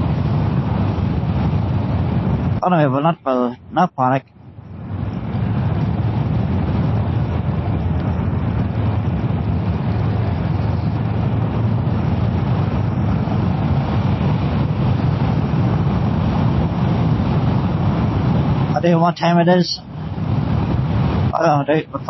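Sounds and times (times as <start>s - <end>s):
motorcycle engine at road speed: 0.0s - 3.0s, 3.6s - 22.0s
wind and road noise: 0.0s - 22.0s.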